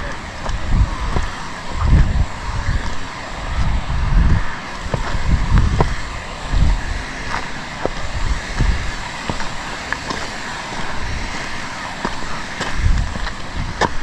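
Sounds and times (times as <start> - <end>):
steady hiss: 0.0 - 14.0
wind buffeting microphone: 0.0 - 14.0.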